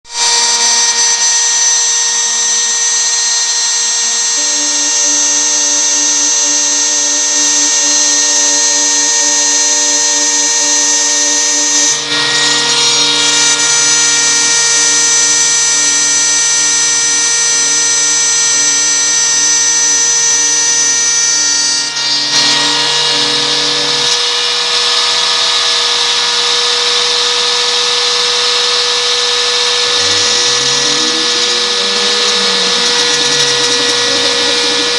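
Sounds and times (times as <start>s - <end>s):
milling machine spindle whine: 0.1s - 34.9s
stepper motors humming: 0.2s - 34.9s.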